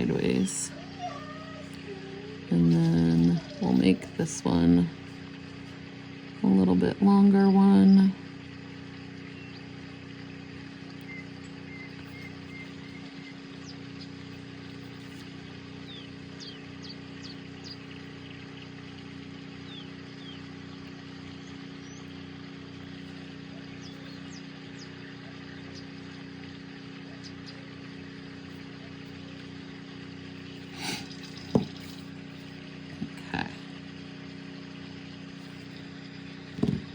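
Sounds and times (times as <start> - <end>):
low background hum: 0.0 - 36.9.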